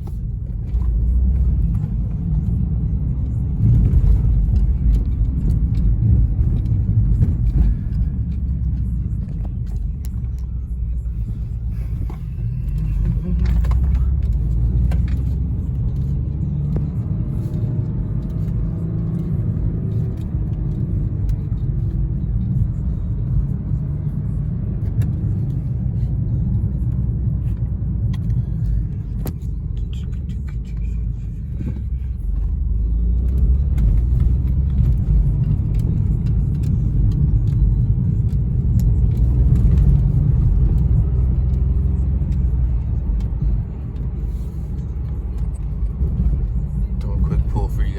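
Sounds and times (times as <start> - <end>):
car engine and road noise: 0.0 - 47.9.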